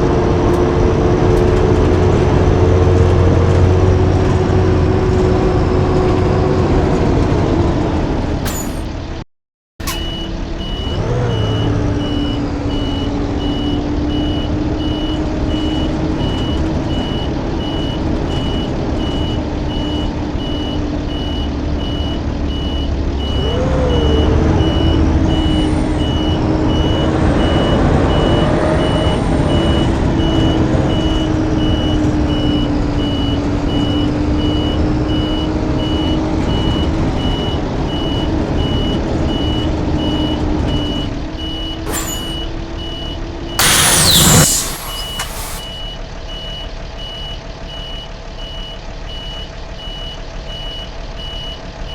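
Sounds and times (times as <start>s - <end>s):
bus engine drone: 0.0s - 9.2s, 9.8s - 51.9s.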